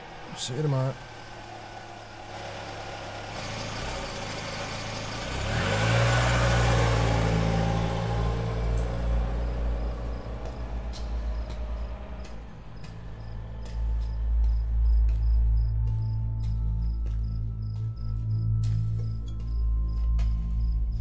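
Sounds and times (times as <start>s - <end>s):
car engine pulling away: 0.0s - 21.0s.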